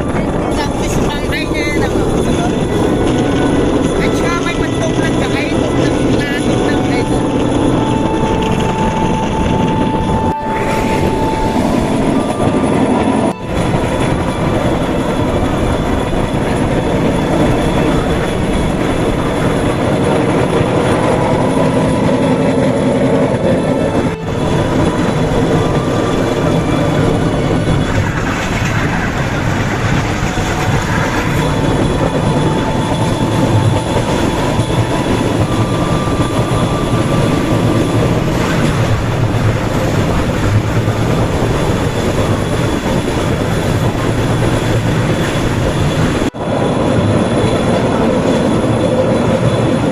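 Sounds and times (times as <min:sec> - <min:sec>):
wheels on rails: 0:00.0 - 0:49.9.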